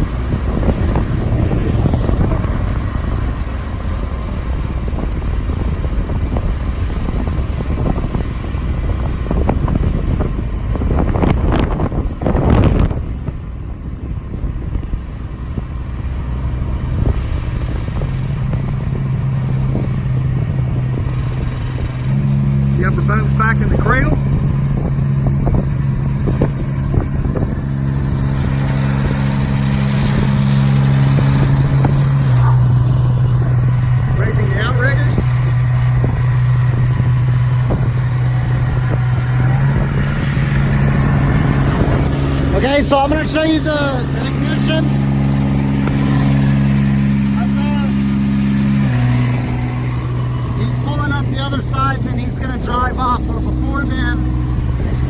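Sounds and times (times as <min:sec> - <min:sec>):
engine running: 0:00.0 - 0:55.0
hydraulic hum: 0:00.0 - 0:55.0.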